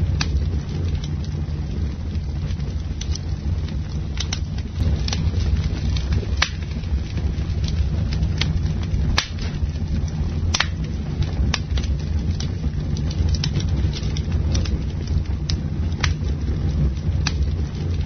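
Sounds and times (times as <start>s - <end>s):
campfire wood crackling and popping: 0.0s - 18.0s
low fire rumble: 0.0s - 18.0s.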